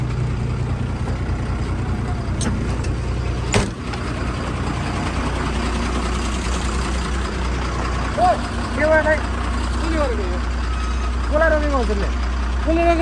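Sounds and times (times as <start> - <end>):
road noise: 0.0 - 13.0
truck engine idling: 0.0 - 13.0.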